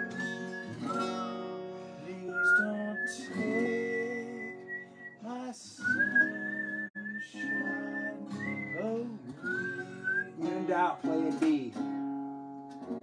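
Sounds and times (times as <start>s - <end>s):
person whistling a melody: 0.0s - 10.4s
acoustic guitars playing: 0.0s - 13.0s.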